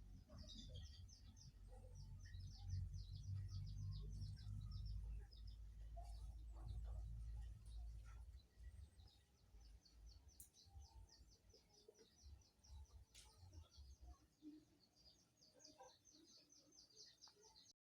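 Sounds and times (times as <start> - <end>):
small bird chirping: 0.0 - 17.8.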